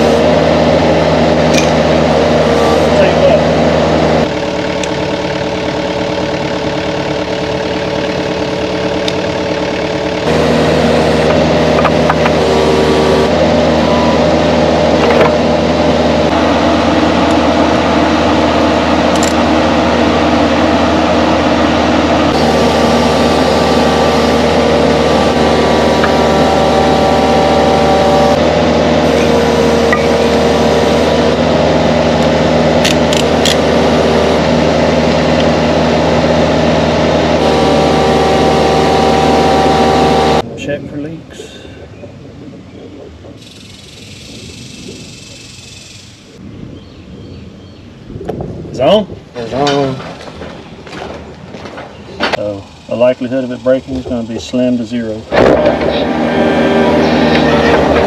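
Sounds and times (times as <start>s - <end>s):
excavator diesel engine running: 0.0s - 42.3s, 49.4s - 58.0s.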